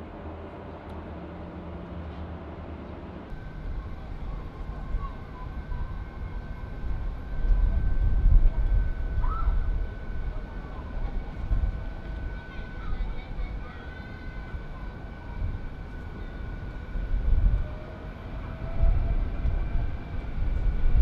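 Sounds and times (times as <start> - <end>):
jet engine whine and rumble: 0.0 - 21.0.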